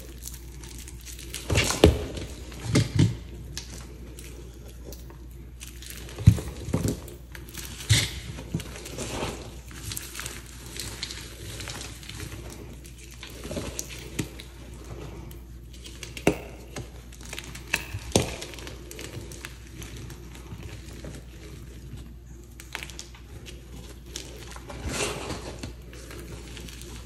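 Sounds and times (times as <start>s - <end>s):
gritty crumbling: 0.0s - 27.0s
steady low hum: 0.0s - 27.0s.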